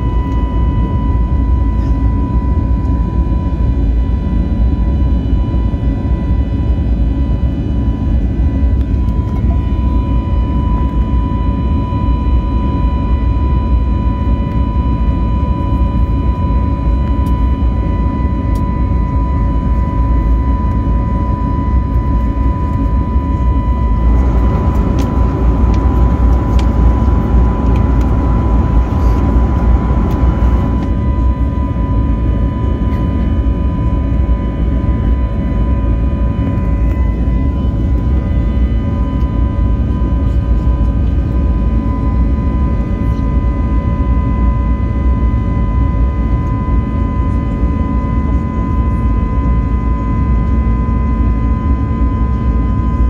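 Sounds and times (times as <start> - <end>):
airplane cabin rumble: 0.0 - 53.0
jet engine whine: 0.0 - 53.0.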